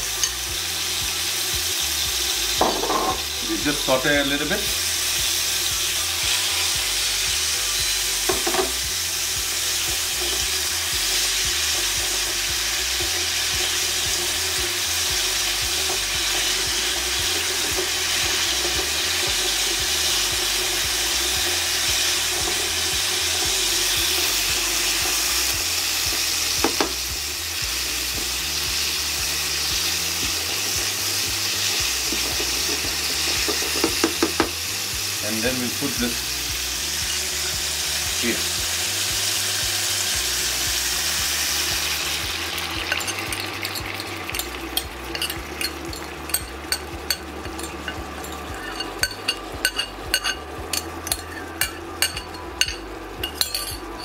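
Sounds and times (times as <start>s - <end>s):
shrimp sizzling in hot oil: 0.0s - 54.0s.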